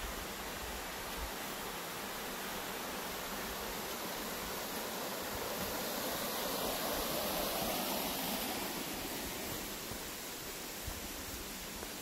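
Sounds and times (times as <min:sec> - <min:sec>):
rocky stream rushing: 0:00.0 - 0:12.0.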